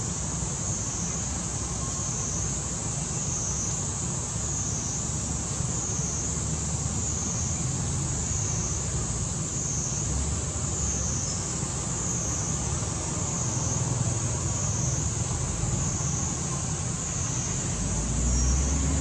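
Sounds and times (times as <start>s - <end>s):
distant road traffic: 0.0s - 19.0s
high insect drone: 0.0s - 19.0s.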